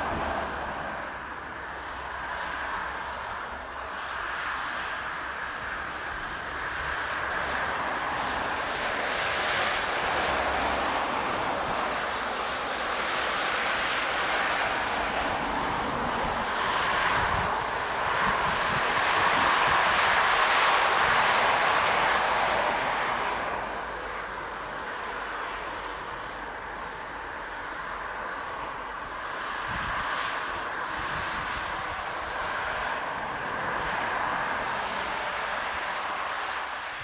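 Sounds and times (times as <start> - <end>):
jet engines passing: 0.0 - 37.0.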